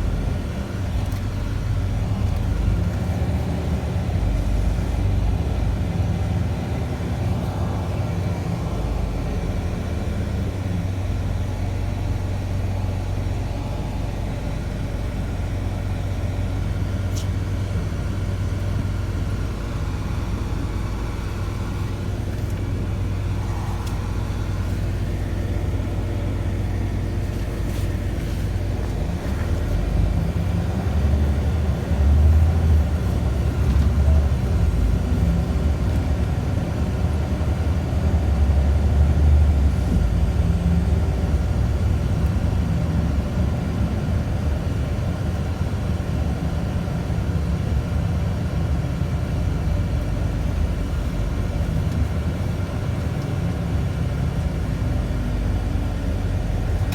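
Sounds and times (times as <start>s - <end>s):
bus engine and road noise: 0.0s - 56.9s.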